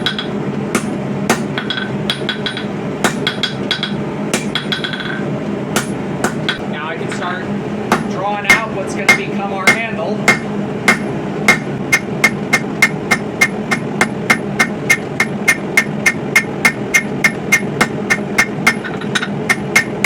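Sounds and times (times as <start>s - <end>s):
hammer ringing on anvil: 0.0s - 5.2s, 7.9s - 20.0s
steady rumble: 0.0s - 20.0s.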